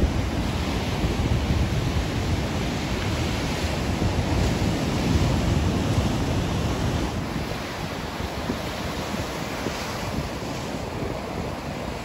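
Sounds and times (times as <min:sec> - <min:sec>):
ocean surf breaking: 0:00.0 - 0:12.0
wind on microphone: 0:00.0 - 0:12.0.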